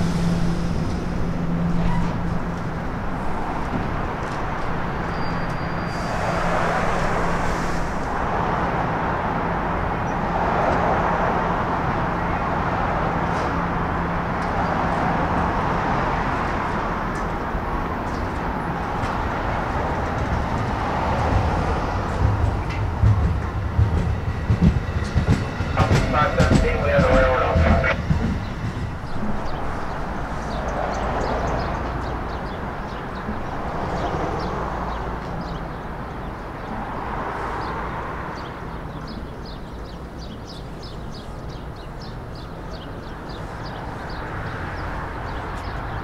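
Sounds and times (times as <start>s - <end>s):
deep train rumble: 0.0s - 46.0s
rushing noise of train: 0.0s - 46.0s
train low hum: 0.0s - 46.0s.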